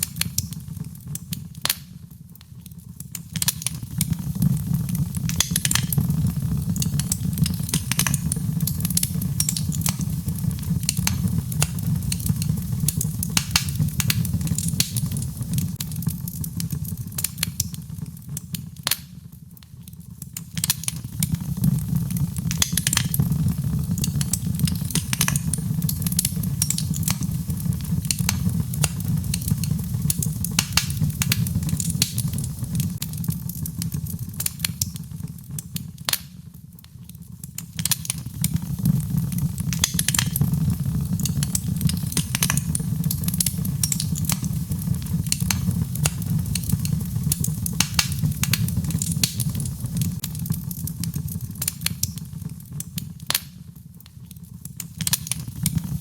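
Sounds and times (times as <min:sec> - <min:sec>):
fire crackles and pops: 0:00.0 - 0:56.0
fire rumbling in fireplace: 0:00.0 - 0:56.0.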